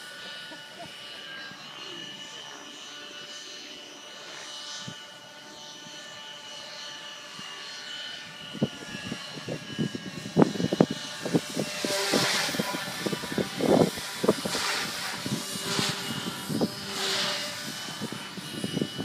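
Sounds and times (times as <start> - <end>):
quadcopter rotors whining: 0.0 - 19.0.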